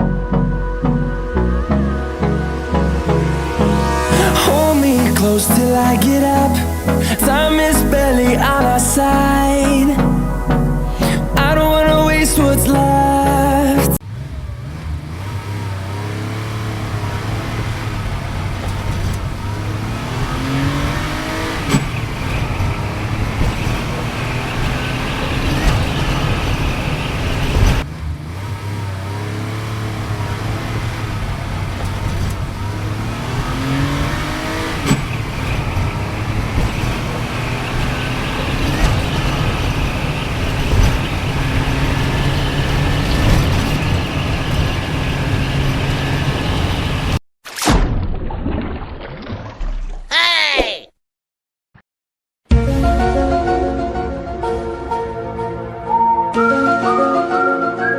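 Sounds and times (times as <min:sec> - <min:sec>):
vehicle engine revving: 0:00.0 - 0:47.2.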